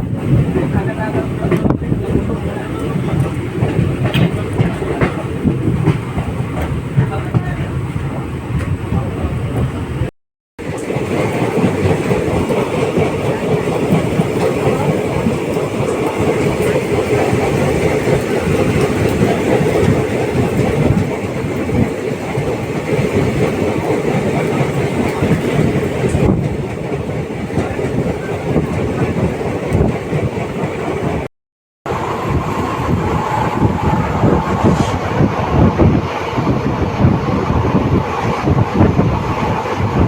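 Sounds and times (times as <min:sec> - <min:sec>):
train coaches rumbling: 0:00.0 - 0:31.3, 0:31.9 - 0:40.0.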